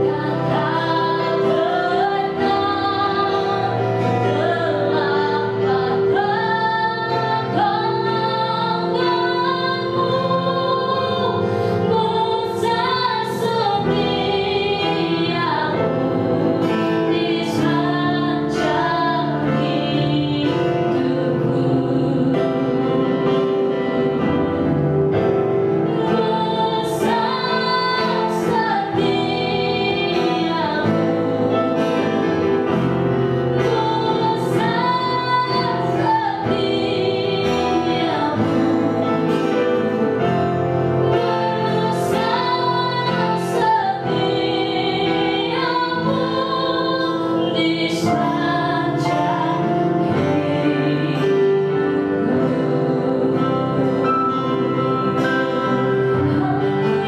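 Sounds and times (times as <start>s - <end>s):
woman singing with vibrato: 0.0s - 24.9s, 25.9s - 32.8s, 33.5s - 39.9s, 41.2s - 57.0s
acoustic guitar: 0.0s - 57.0s
keyboard: 0.0s - 57.0s.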